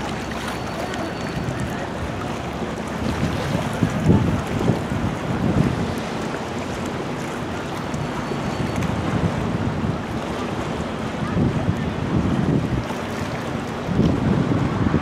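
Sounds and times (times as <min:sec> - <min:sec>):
choppy river water rushing: 0:00.0 - 0:15.0
wind buffeting microphone: 0:01.4 - 0:15.0.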